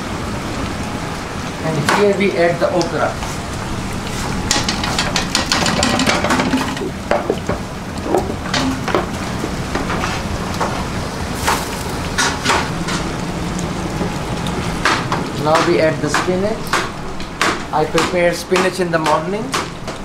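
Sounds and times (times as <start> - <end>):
steady sizzle: 0.0 - 20.0.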